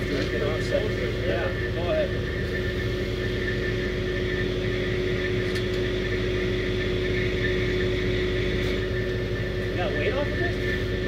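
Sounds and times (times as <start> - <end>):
diesel engine drone: 0.0 - 11.0
hydraulic whine: 0.0 - 11.0.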